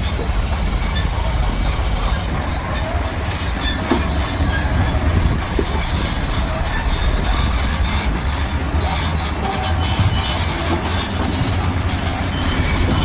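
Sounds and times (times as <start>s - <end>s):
low diesel engine rumble: 0.0s - 13.0s
steel tracks squealing: 0.0s - 13.0s.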